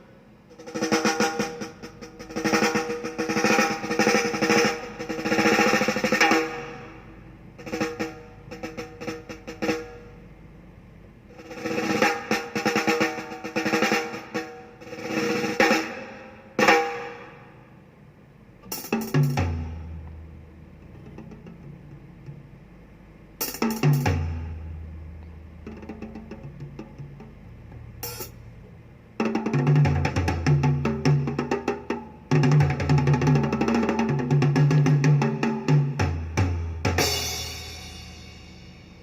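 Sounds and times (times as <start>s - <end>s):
drum music with snare rolls: 0.5s - 10.3s, 11.3s - 17.4s, 18.6s - 20.1s, 20.8s - 22.6s, 23.4s - 24.8s, 25.6s - 28.4s, 29.2s - 39.0s.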